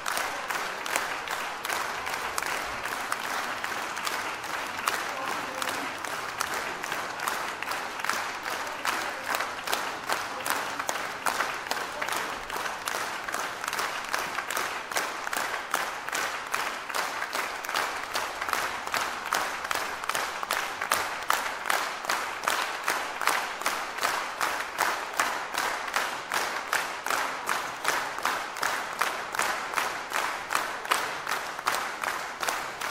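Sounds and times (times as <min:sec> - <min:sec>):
audience clapping in rhythm: 0:00.0 - 0:32.9.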